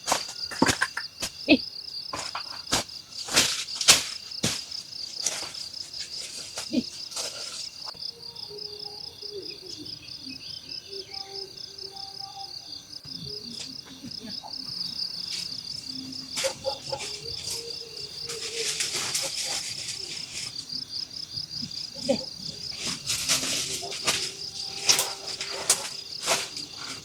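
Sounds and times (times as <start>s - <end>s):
crackling rustles: 0.0s - 8.0s, 13.2s - 27.0s
insects trilling: 0.0s - 27.0s.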